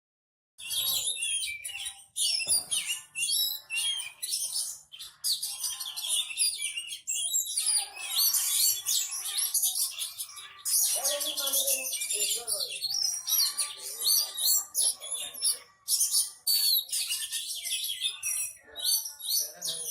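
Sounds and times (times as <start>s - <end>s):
bird singing chirps and trills: 0.6s - 19.9s.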